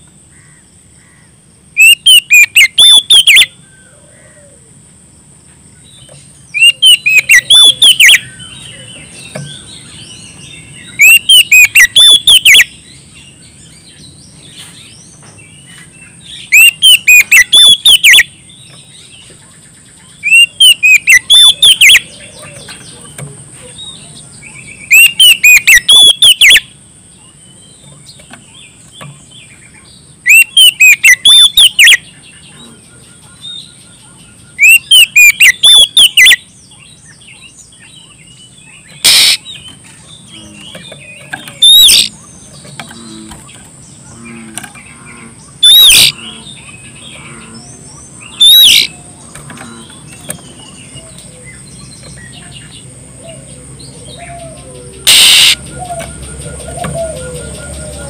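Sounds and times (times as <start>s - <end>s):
bird singing whistled notes: 1.8s - 3.8s, 5.8s - 44.1s, 44.8s - 49.2s, 49.9s - 58.0s.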